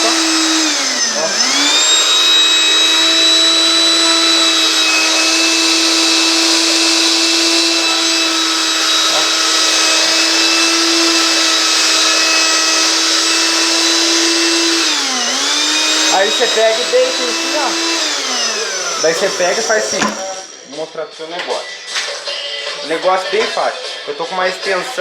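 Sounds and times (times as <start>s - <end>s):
blender motor whine: 0.0s - 20.7s.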